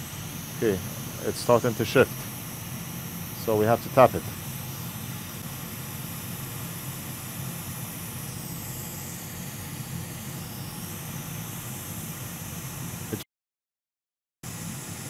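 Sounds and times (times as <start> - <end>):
hot-air rework station hissing: 0.0 - 13.2, 14.4 - 15.0.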